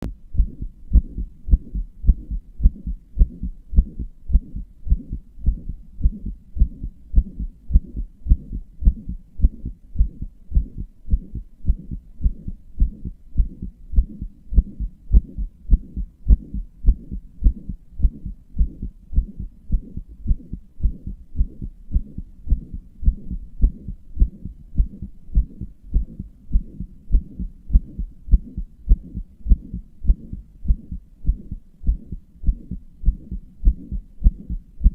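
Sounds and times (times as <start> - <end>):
heartbeat thumps: 0.0 - 34.9
heart murmur whooshing: 0.3 - 34.9.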